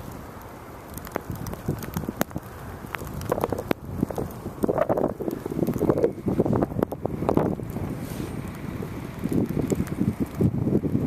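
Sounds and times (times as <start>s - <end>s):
wind buffeting microphone: 0.8s - 11.0s.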